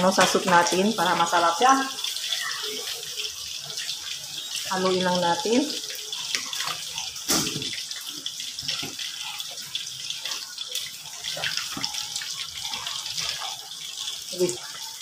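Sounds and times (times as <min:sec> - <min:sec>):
soup bubbling: 0:00.0 - 0:15.0.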